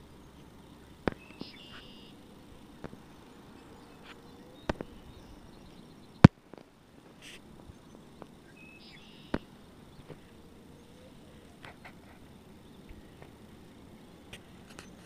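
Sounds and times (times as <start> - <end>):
faint steady hush: 0.0 - 15.0.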